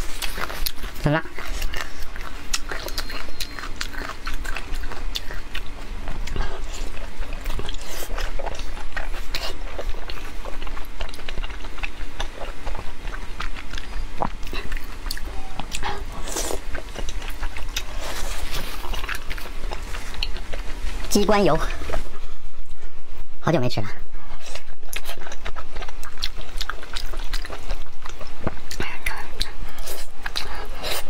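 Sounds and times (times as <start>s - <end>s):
wet chewing and lip-smacking: 0.0s - 22.2s, 24.4s - 31.0s.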